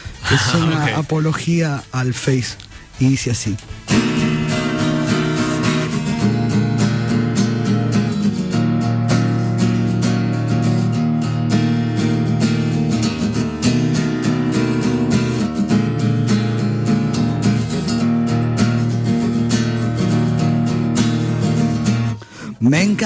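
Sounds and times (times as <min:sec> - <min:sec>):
acoustic guitar strumming: 0:03.6 - 0:23.0.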